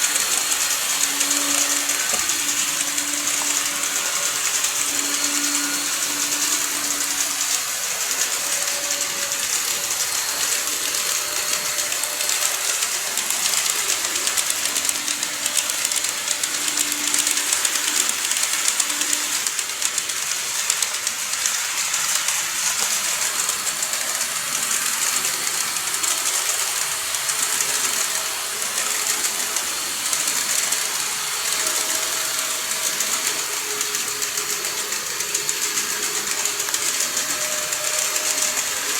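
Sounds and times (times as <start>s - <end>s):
faint motor whine: 0.0s - 38.9s
model train wheels rolling on rail: 0.0s - 38.9s
rapid fine clicking: 0.0s - 38.9s.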